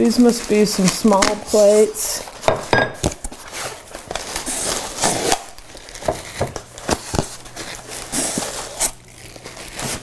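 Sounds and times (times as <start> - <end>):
plastic film and foam rustling: 0.0 - 10.0.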